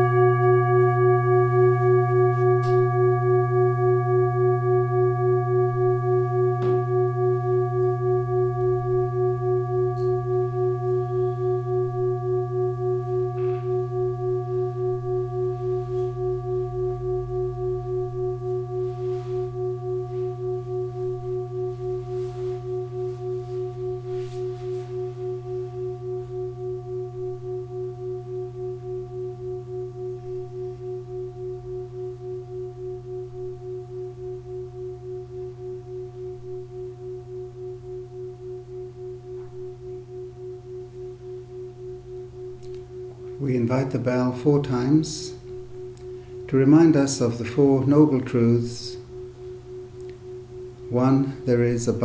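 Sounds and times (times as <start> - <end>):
singing bowl ringing: 0.0 - 52.0.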